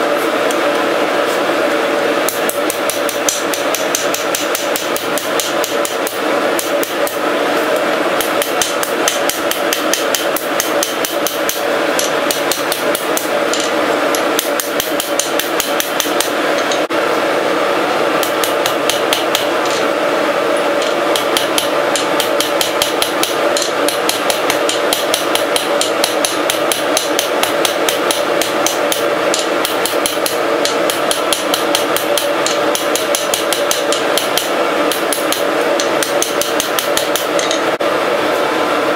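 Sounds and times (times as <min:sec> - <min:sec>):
hammer striking hot steel on anvil: 0:02.2 - 0:07.2, 0:08.2 - 0:16.9, 0:18.2 - 0:19.8, 0:20.8 - 0:37.7.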